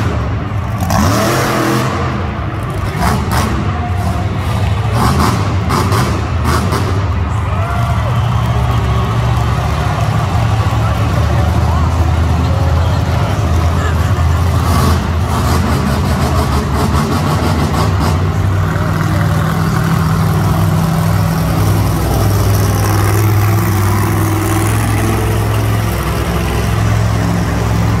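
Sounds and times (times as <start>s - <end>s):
monster truck engines roaring: 0.0s - 28.0s.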